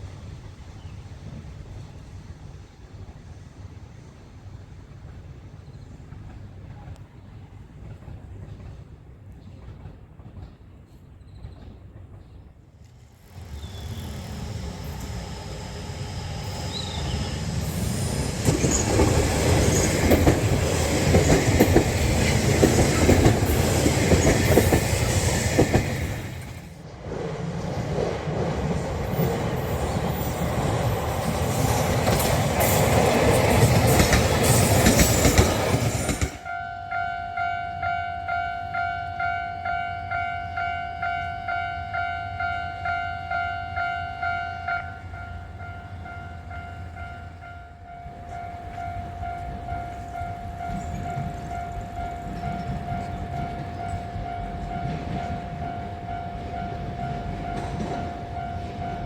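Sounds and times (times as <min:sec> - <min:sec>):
approaching train rumble: 0:00.0 - 0:59.0.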